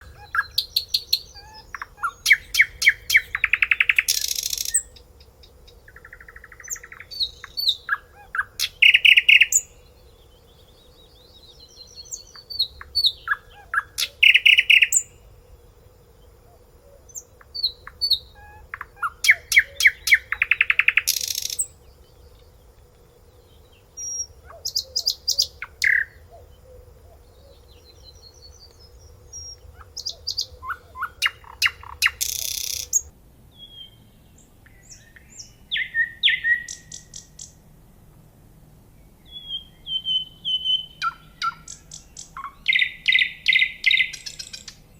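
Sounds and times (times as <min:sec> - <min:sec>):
nightingale singing: 0:00.0 - 0:15.2, 0:16.5 - 0:22.6, 0:23.4 - 0:37.6, 0:39.0 - 0:44.9.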